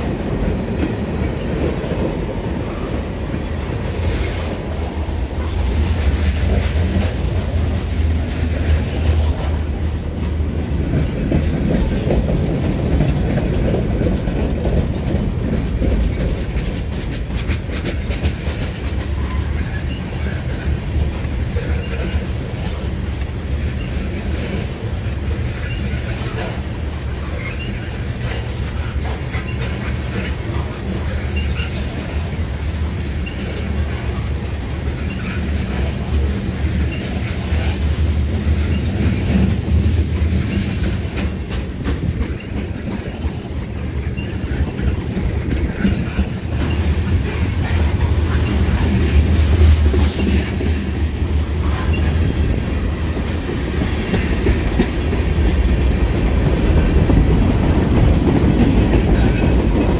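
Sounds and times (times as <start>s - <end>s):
clickety-clack over rail joints: 0.0s - 59.9s
train wheels rumbling: 0.0s - 59.9s.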